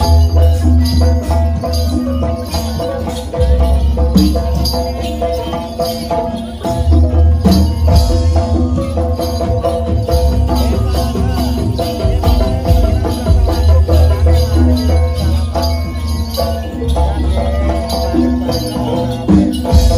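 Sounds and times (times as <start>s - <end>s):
gamelan ensemble playing: 0.0s - 19.9s
jingling bells: 0.0s - 19.9s.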